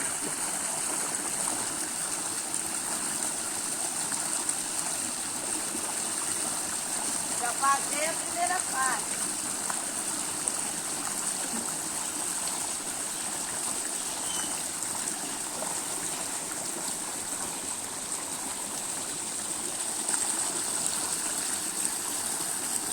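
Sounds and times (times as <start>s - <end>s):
stream water running: 0.0s - 22.9s.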